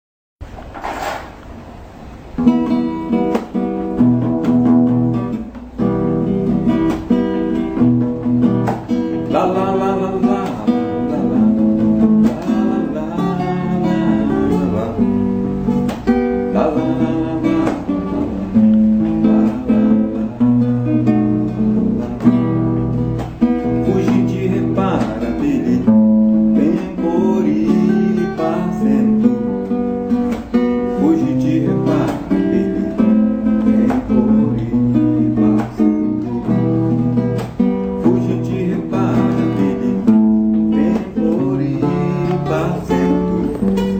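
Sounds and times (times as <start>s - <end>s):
acoustic guitar playing: 0.4s - 43.9s.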